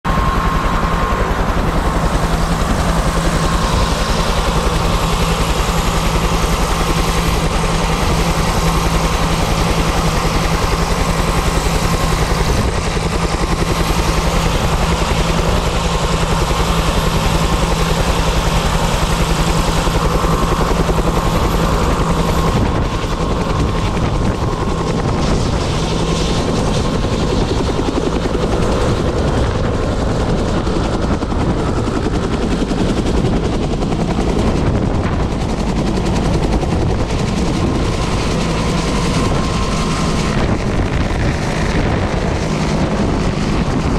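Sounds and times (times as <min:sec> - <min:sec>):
helicopter rotor beating: 0:00.0 - 0:43.9
turbine whine: 0:00.1 - 0:43.9.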